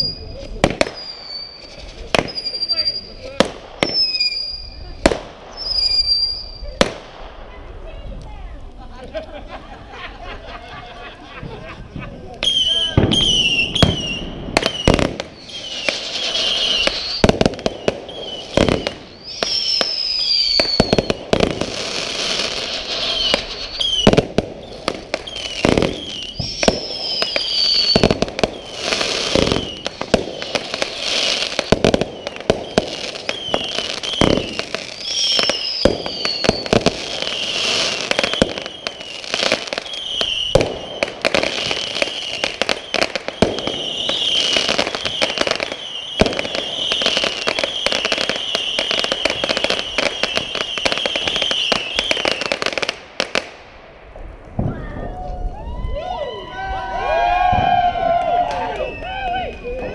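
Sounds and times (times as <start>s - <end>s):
falling firework whistles: 0.0s - 7.0s, 12.4s - 53.5s, 54.5s - 59.9s
fireworks bangs and crackles: 0.0s - 59.9s.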